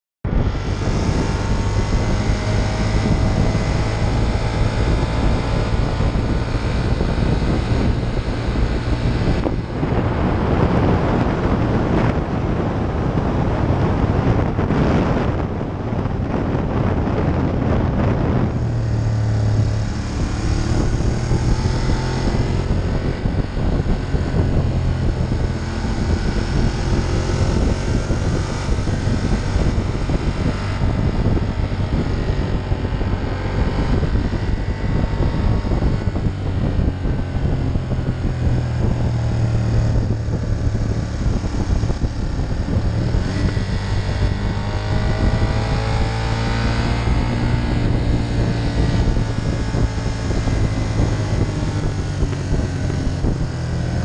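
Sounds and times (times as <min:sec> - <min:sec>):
motorcycle engine running: 0:00.2 - 0:54.0
wind and road noise: 0:00.2 - 0:54.0.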